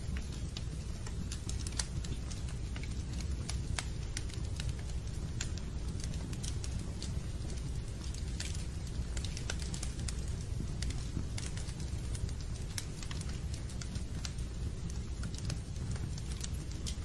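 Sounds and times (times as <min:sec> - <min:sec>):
fire crackling with pops: 0:00.0 - 0:17.0
low rumble of burning fire: 0:00.0 - 0:17.0.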